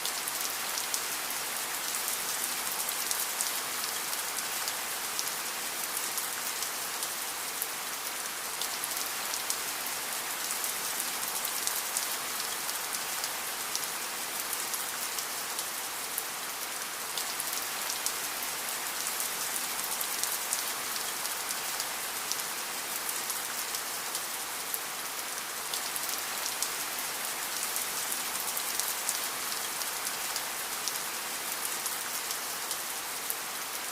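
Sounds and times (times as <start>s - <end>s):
steady rain on a hard surface: 0.0s - 33.9s.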